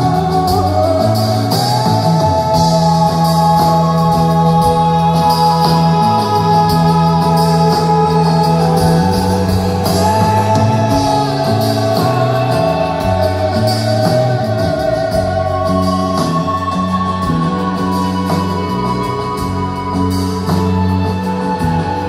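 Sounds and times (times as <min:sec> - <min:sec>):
bass line: 0:00.0 - 0:22.0
held chords: 0:00.0 - 0:22.0
live rock band playing: 0:00.0 - 0:22.0.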